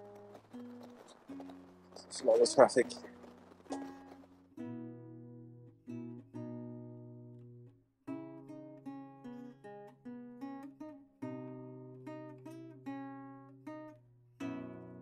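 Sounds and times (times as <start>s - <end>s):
acoustic guitar plucked melody: 0.0s - 15.0s.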